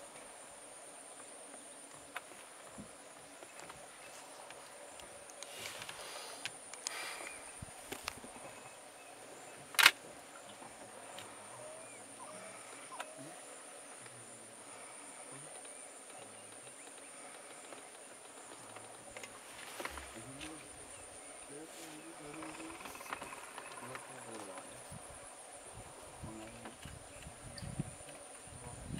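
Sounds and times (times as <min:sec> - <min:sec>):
insects chirring: 0:00.0 - 0:28.9.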